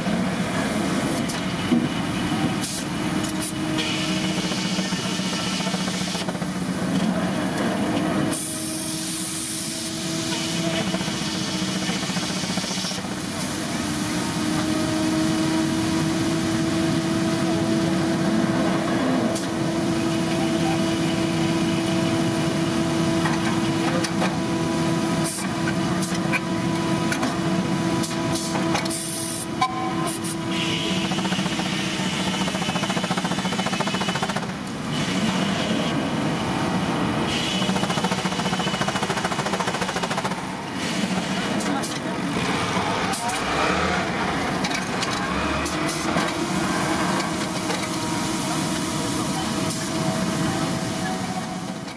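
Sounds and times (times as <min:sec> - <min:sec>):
sawmill machinery din: 0:00.1 - 0:51.9.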